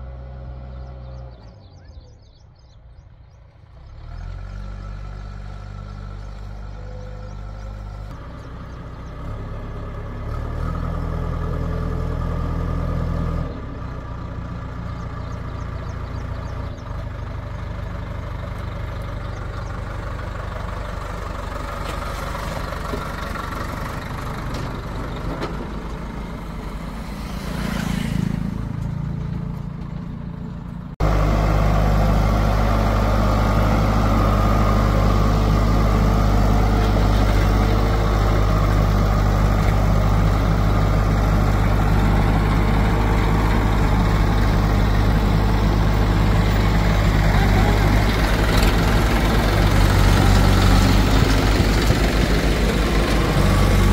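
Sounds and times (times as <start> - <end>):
diesel engine running: 0.0 - 53.9
diesel engines idling close by: 0.0 - 53.9.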